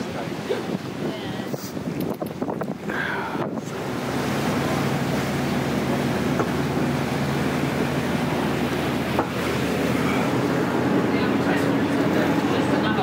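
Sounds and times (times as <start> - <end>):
boat engine humming: 0.0 - 13.0
churning wake water: 0.0 - 13.0
wind: 0.0 - 13.0.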